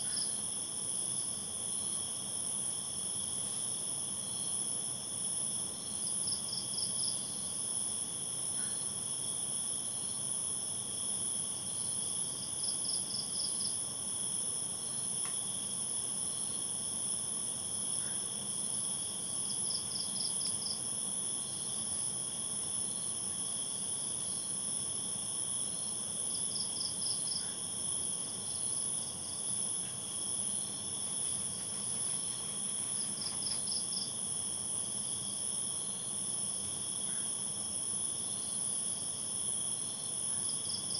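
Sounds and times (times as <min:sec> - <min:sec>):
insect chirps: 0:00.0 - 0:40.9
insects trilling: 0:00.0 - 0:40.9.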